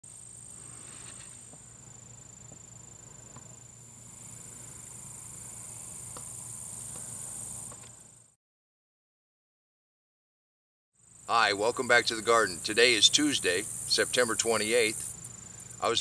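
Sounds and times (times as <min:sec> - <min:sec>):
insects chirring: 0:00.0 - 0:08.3, 0:11.0 - 0:16.0.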